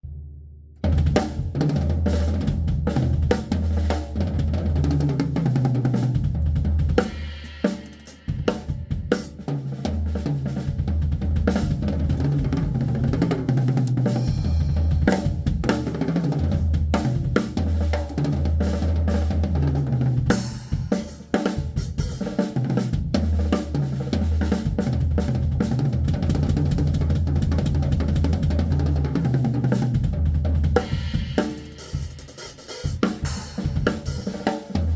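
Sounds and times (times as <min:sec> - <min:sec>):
drum kit fast bursts: 0:00.8 - 0:34.9.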